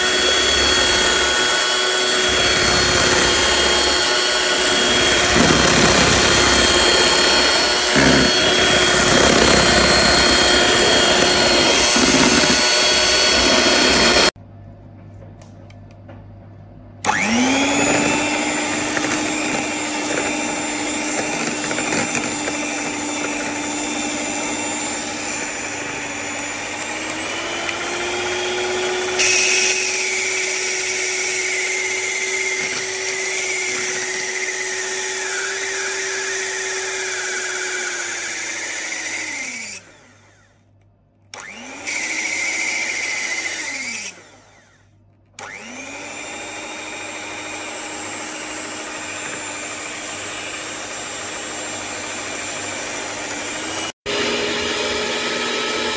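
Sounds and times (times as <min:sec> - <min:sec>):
electric hand mixer whirring: 0:00.0 - 0:14.4, 0:17.0 - 0:40.6, 0:41.3 - 0:55.9.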